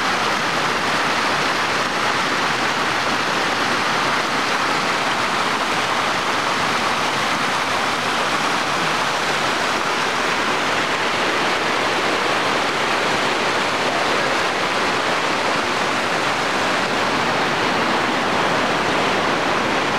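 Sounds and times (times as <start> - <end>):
water rushing over rocks: 0.0 - 19.9.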